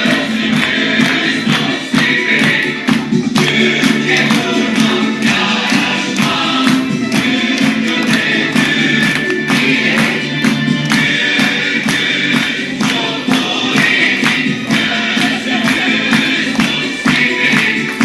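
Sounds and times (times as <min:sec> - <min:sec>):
group singing over a beat: 0:00.0 - 0:18.0.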